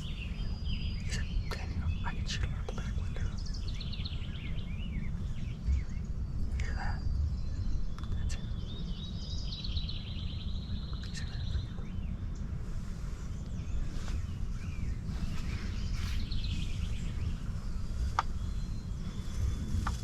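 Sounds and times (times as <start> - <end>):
low steady rumble: 0.0 - 20.0
songbirds trilling: 0.0 - 20.0.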